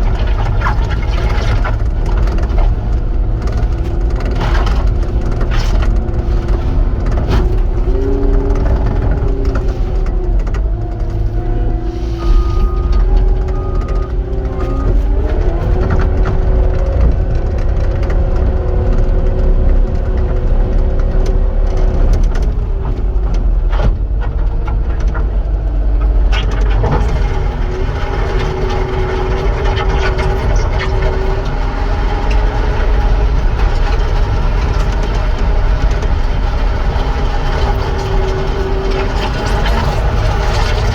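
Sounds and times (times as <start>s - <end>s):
skid steer engine rumbling: 0.0s - 40.9s.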